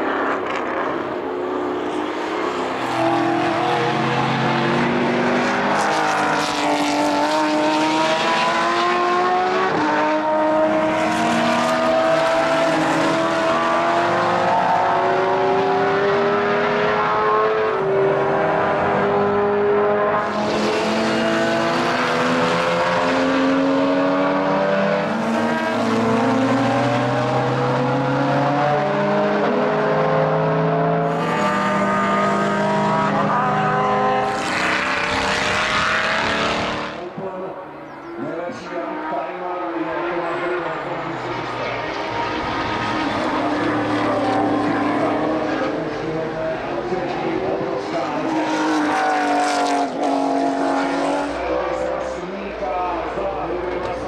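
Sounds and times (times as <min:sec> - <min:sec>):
race car engines accelerating: 0:00.0 - 0:54.0.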